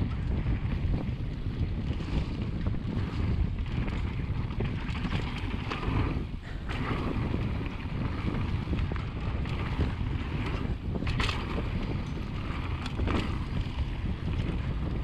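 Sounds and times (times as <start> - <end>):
bike rattling and knocking: 0.0 - 15.0
bike tyre rumble: 0.0 - 15.0
wind noise on microphone: 0.0 - 15.0.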